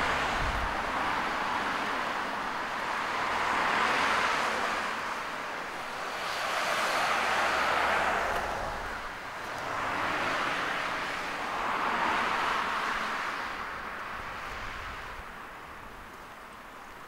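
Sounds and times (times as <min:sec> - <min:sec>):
cars passing on road: 0:00.0 - 0:17.0.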